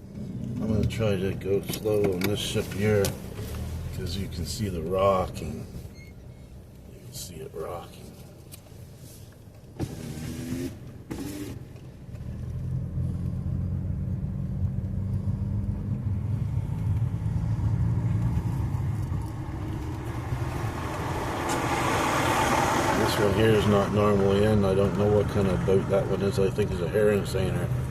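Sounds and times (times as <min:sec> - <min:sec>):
vehicle engine humming low: 0:00.0 - 0:27.9.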